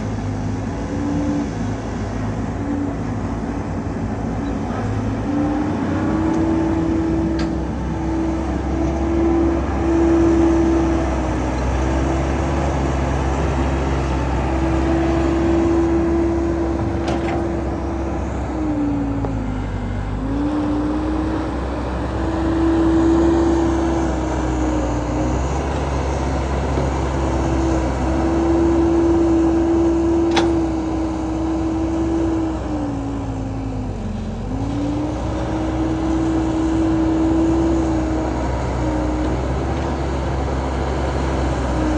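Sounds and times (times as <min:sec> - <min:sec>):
combine harvester engine humming: 0:00.0 - 0:41.9.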